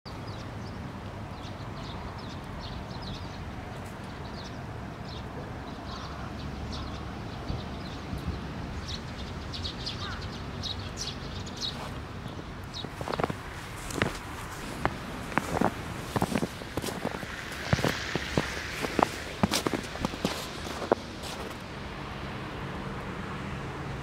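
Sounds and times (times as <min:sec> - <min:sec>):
small birds chirping: 0:00.1 - 0:21.7.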